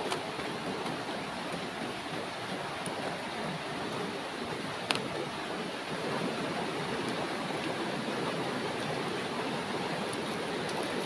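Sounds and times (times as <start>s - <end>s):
stream flowing over stones: 0.0s - 11.0s.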